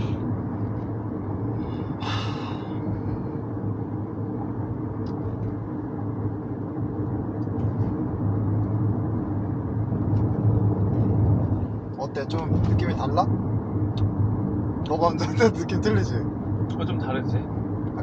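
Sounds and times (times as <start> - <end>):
road and tyre noise in car cabin: 0.0 - 18.0.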